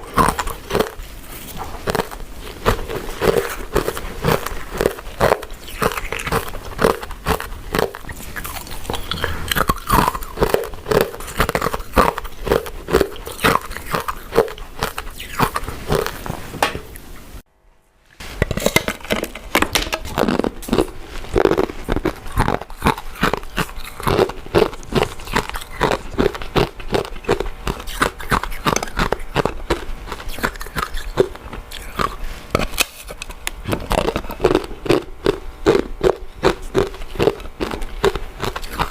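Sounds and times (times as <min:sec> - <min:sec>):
chewing sticky rice cakes: 0:00.0 - 0:16.4, 0:20.0 - 0:38.9.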